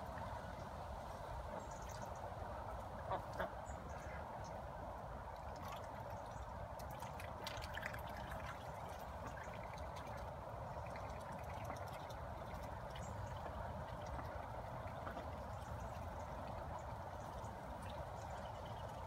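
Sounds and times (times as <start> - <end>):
water trickling into pond: 0.0 - 19.0.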